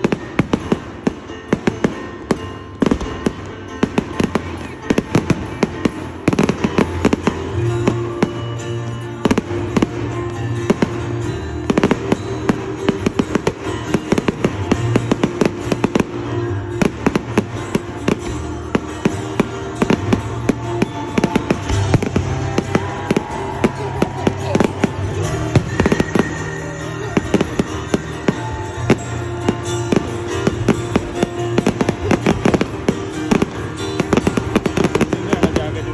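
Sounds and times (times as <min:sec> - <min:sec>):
fireworks bangs and crackling: 0:00.0 - 0:35.9
music with bass line: 0:00.0 - 0:35.9.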